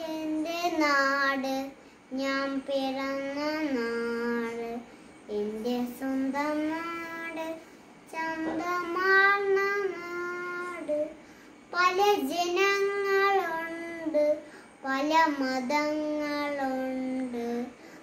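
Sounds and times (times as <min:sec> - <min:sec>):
boy singing unaccompanied: 0:00.0 - 0:17.8.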